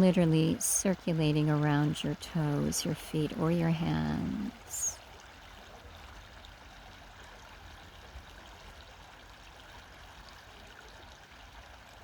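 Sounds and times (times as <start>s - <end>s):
faint creek flowing: 0.0s - 12.0s.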